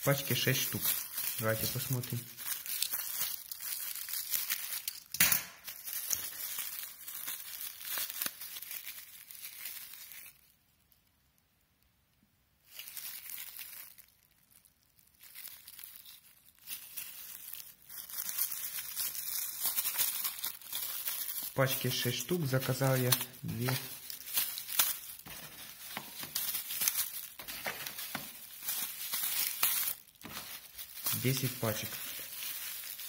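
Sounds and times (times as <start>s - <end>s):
plastic bag crinkling and tearing: 0.0s - 11.0s, 12.6s - 33.0s.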